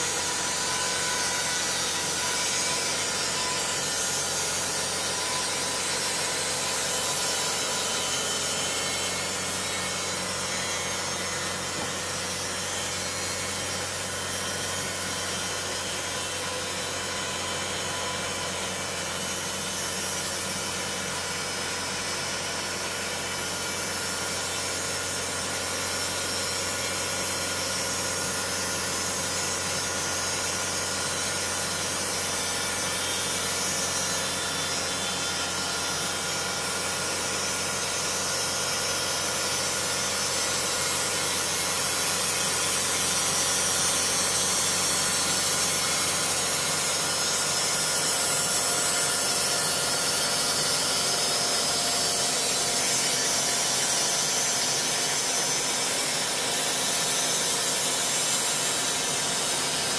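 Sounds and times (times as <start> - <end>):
band sawmill sawing log: 0.0 - 59.9.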